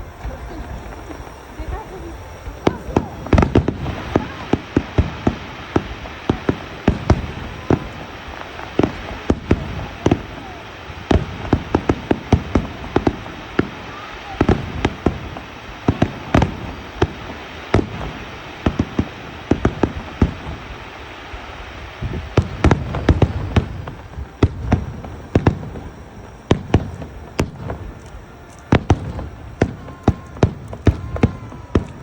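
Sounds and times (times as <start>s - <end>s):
fireworks bangs and booms: 0.0s - 32.0s.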